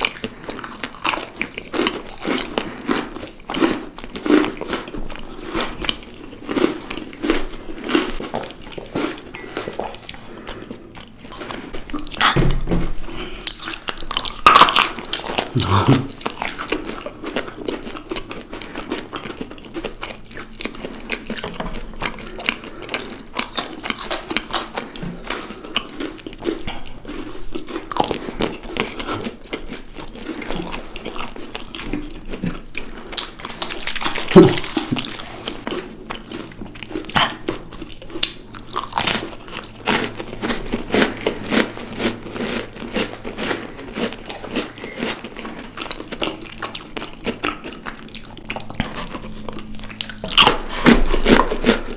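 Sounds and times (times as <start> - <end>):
person chewing and crunching chocolates: 0.0 - 51.9.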